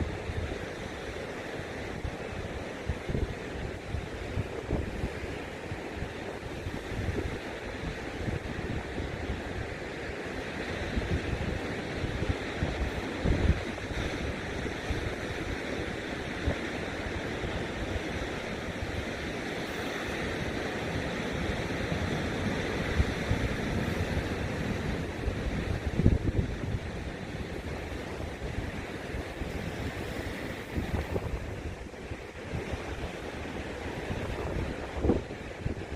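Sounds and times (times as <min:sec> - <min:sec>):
ocean surf washing in: 0:00.0 - 0:35.9
wind buffeting the microphone: 0:00.0 - 0:35.9.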